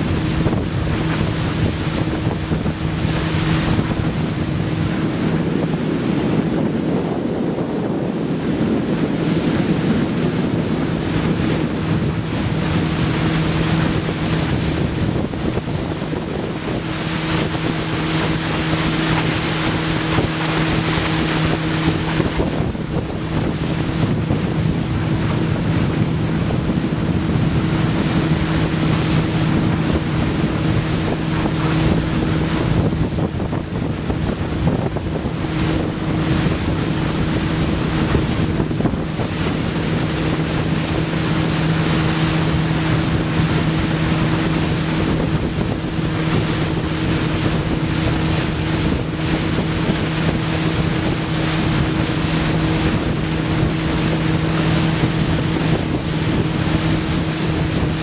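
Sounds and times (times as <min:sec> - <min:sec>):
boat engine drone: 0:00.0 - 0:58.0
rushing wake water: 0:00.0 - 0:58.0
wind on microphone: 0:00.0 - 0:58.0.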